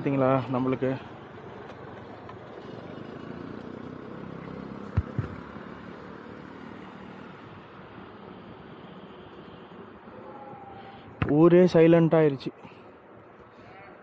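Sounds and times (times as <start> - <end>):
traffic hum: 0.0 - 14.0.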